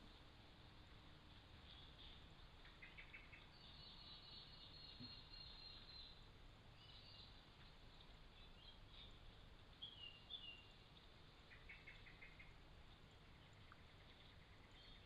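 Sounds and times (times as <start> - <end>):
faint bird chirps: 1.6 - 15.0.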